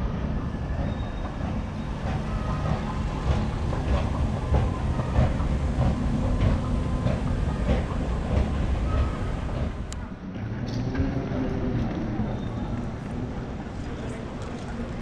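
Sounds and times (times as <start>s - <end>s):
rail vehicle rumbling: 0.0s - 15.0s.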